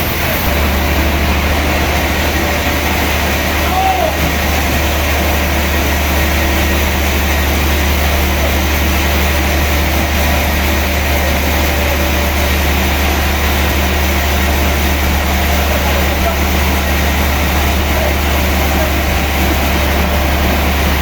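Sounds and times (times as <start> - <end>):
heavy engine droning: 0.0 - 21.0.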